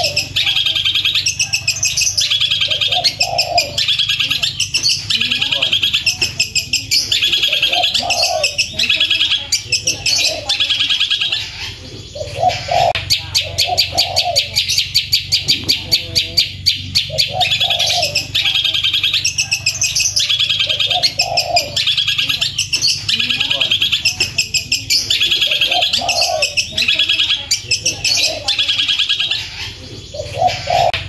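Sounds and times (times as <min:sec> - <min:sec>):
bird singing: 0:00.0 - 0:31.0.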